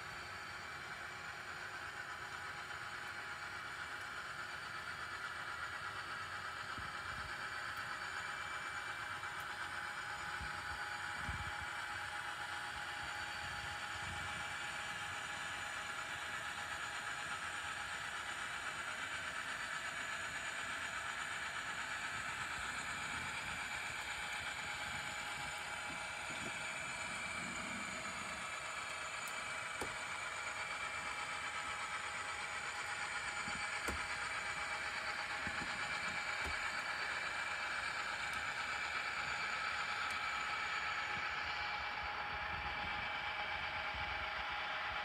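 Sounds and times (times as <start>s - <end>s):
model train running: 0.0s - 45.0s.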